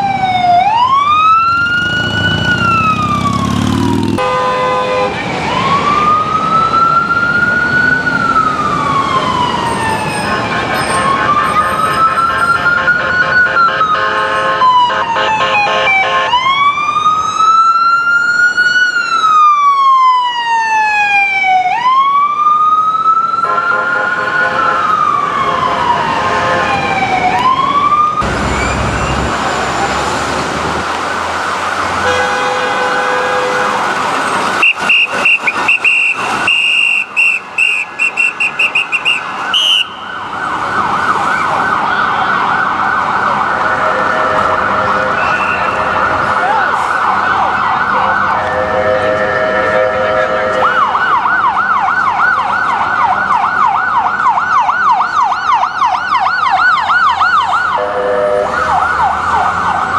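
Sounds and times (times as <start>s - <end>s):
ambulance siren: 0.0s - 59.9s.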